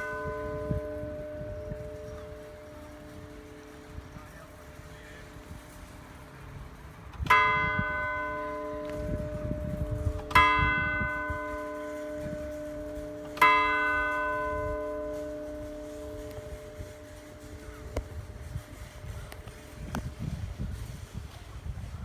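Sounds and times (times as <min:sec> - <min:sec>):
church bell tolling: 0:00.0 - 0:05.5, 0:07.2 - 0:19.8.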